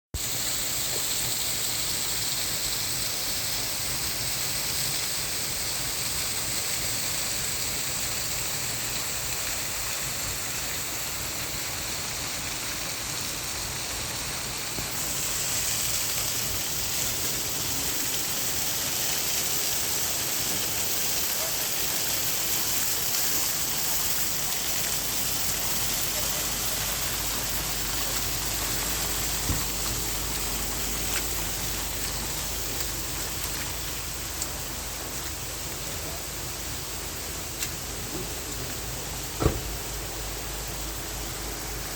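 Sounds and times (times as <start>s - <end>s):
waterfall splashing: 0.2s - 41.9s.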